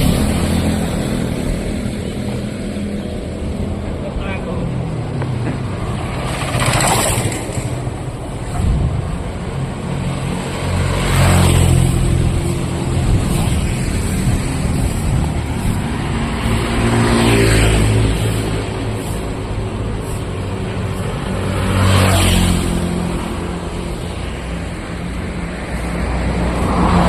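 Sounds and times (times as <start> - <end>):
motor vehicles passing: 0.0 - 27.0.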